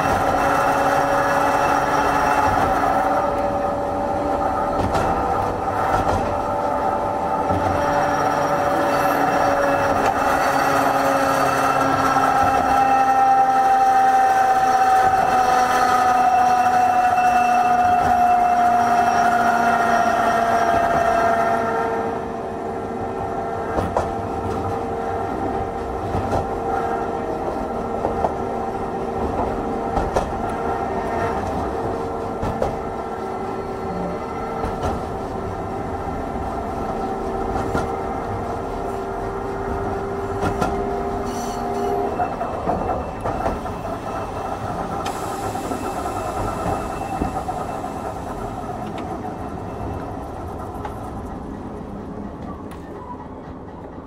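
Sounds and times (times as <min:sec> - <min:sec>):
rail joint clicks: 0:00.0 - 0:21.6, 0:23.6 - 0:54.0
rumble of tram wheels: 0:00.0 - 0:54.0
tram motors whining: 0:00.0 - 0:54.0.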